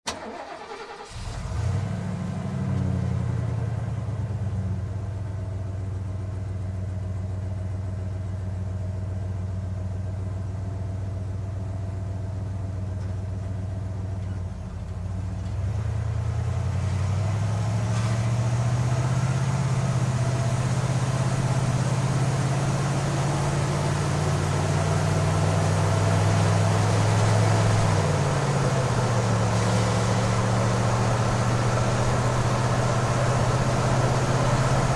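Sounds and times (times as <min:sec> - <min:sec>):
van engine idling and revving: 0:00.1 - 0:34.9.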